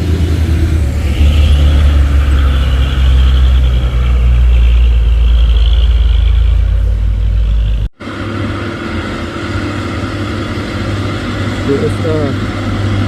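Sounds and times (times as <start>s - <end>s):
truck diesel engine labouring: 0.0s - 13.0s.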